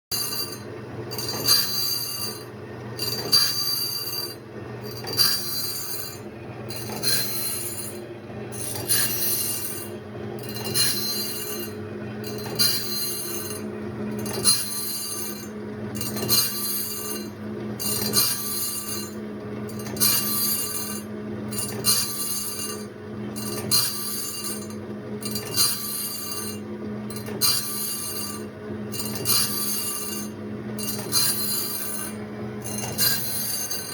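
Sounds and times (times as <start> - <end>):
grinding wheel rasping: 0.1 - 33.9
motor humming: 0.1 - 33.9.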